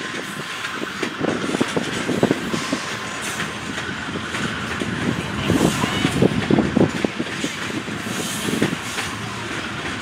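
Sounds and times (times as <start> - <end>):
train wheels clicking over rail joints: 0.0 - 10.0.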